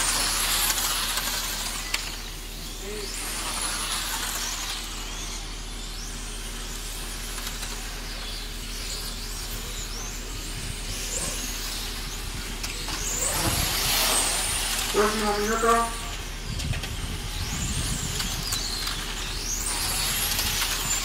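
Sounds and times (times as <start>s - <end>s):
rc car electric motors whining: 0.0s - 21.0s
steady low hum: 0.0s - 21.0s.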